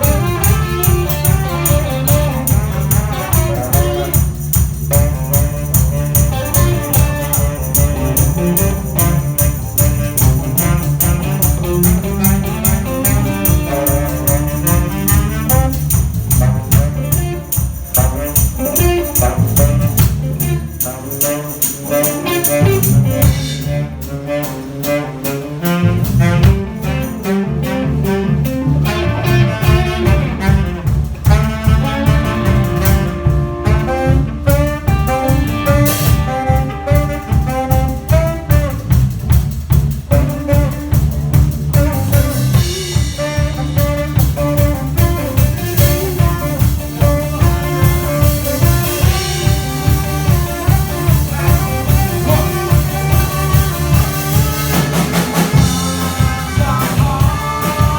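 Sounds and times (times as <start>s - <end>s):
live band playing: 0.0s - 57.9s.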